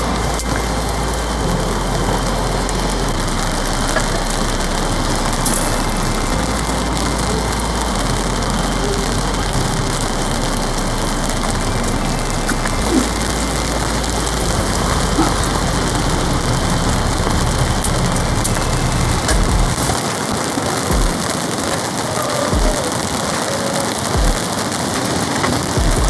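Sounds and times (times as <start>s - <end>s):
heavy rain on a tarp: 0.0s - 26.0s.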